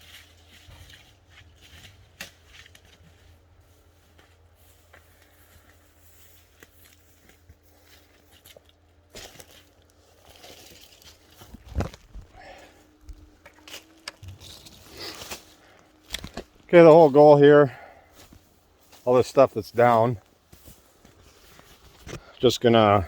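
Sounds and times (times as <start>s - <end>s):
brush and twigs rustling cracking: 0.0s - 23.0s.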